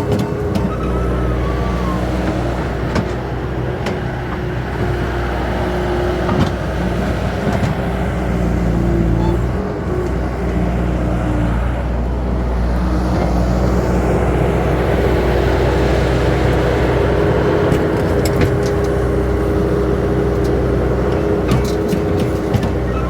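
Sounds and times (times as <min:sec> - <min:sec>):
earthmoving machine engine under load: 0:00.0 - 0:23.0.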